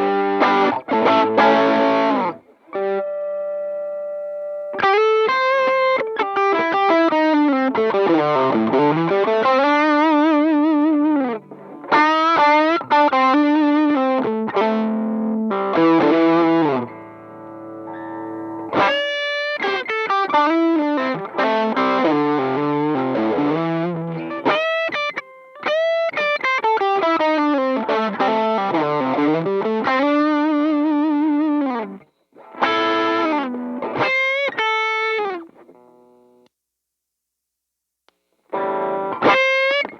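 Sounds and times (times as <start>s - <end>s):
distorted electric guitar lead: 0.0s - 36.4s, 38.5s - 39.9s.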